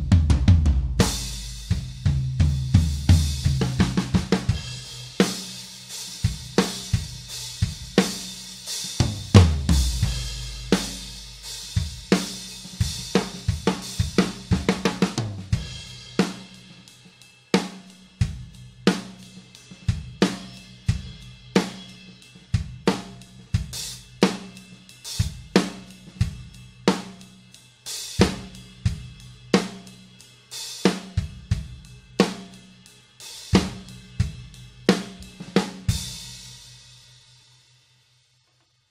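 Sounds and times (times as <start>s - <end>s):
drum kit groove: 0.0s - 37.7s
hi-hat cymbal wash: 0.9s - 38.3s.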